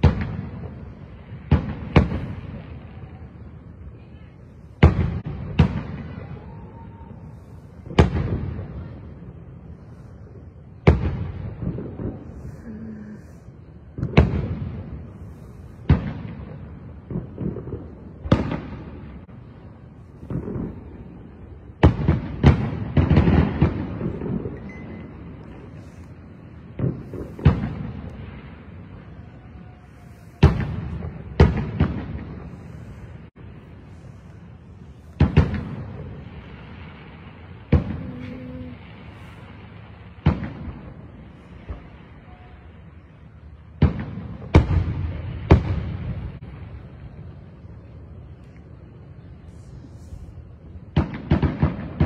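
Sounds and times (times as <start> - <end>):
fireworks booming: 0.0 - 52.0.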